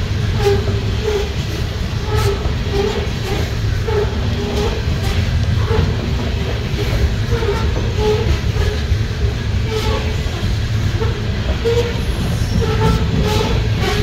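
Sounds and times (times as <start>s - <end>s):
train running gear squeals: 0.0s - 14.0s
train wheels rumbling on rail: 0.0s - 14.0s.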